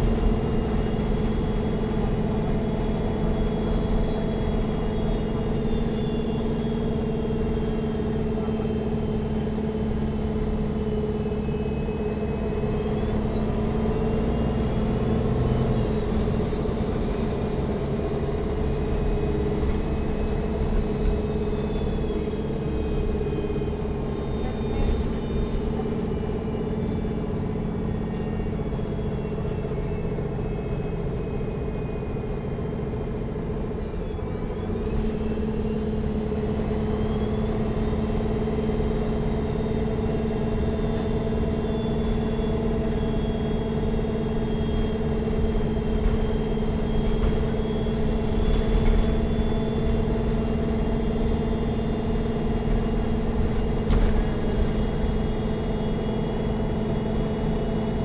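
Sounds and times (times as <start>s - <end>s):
bus engine humming: 0.0s - 58.0s.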